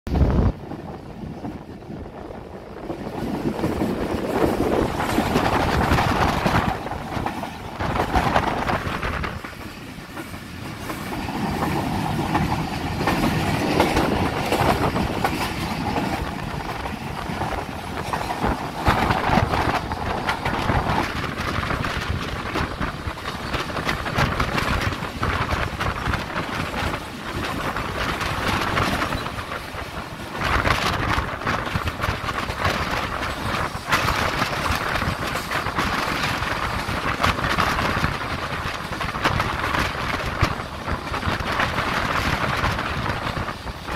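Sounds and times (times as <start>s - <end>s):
train wheels rumbling on rails: 0.1s - 43.9s
clicking over rail joints: 2.7s - 43.9s.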